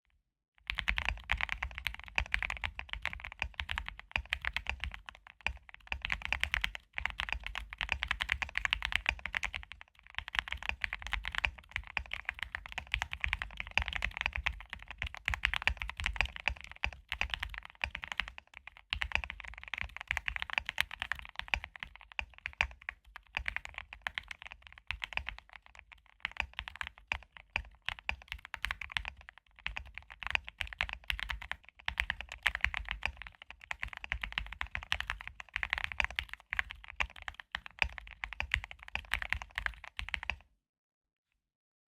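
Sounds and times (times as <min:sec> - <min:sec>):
mechanical keyboard typing: 0:00.6 - 0:40.4.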